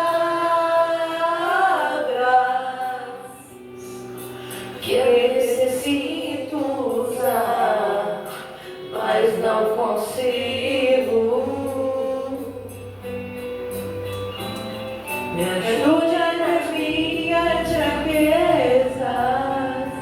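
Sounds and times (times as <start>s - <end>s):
person singing gospel song: 0.0s - 12.9s, 15.3s - 20.0s
instrumental accompaniment: 0.0s - 20.0s.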